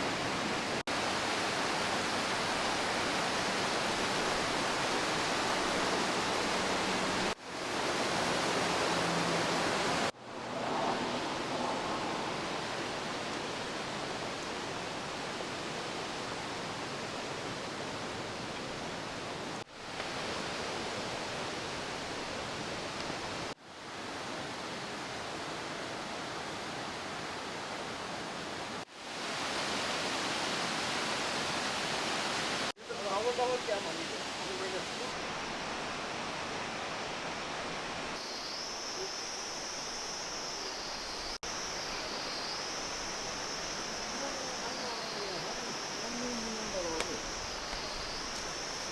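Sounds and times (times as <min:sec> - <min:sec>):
rushing stream water: 0:00.0 - 0:48.9.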